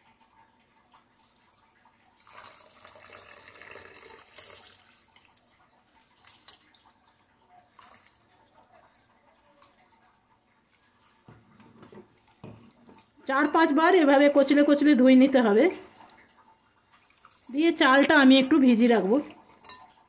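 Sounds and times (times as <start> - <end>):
water pouring into bowl: 1.0 - 11.4, 12.1 - 20.0.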